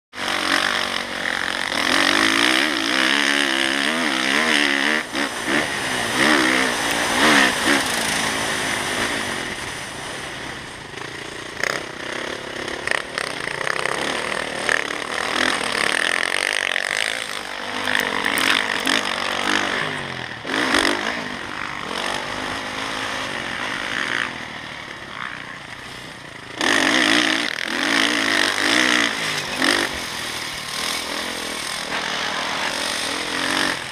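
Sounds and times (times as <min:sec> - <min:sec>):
dirt bike engine revving: 0:00.1 - 0:33.9.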